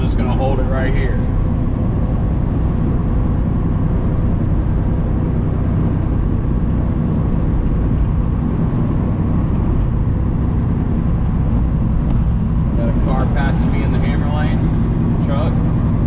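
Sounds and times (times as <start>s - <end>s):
truck engine and road drone: 0.0s - 16.0s.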